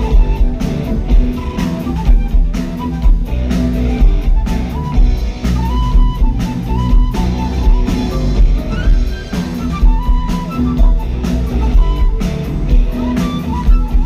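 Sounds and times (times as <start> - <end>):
flute melody: 0.0 - 14.0
rock band playing: 0.0 - 14.0.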